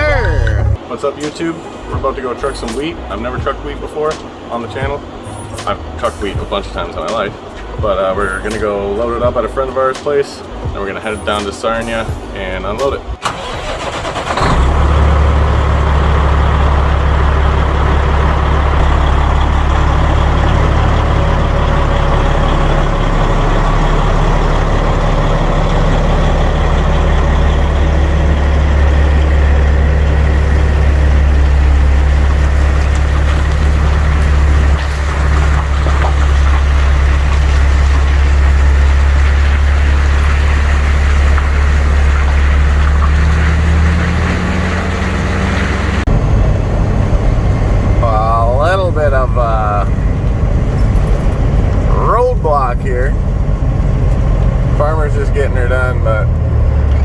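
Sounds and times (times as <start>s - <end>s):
truck diesel engine humming: 0.0s - 57.0s.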